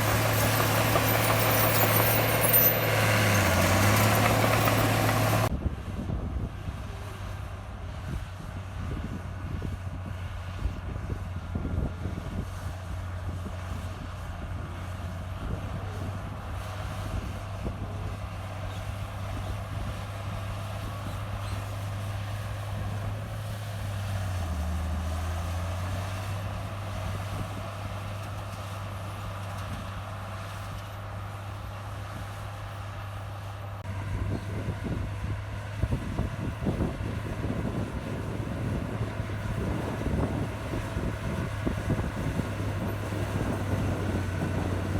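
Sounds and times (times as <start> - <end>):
bulldozer diesel engine: 0.0 - 44.9.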